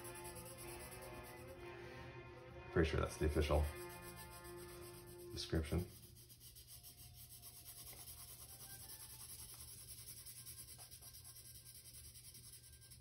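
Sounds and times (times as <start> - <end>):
colored pencil shading on paper: 0.0 - 1.6, 3.0 - 13.0.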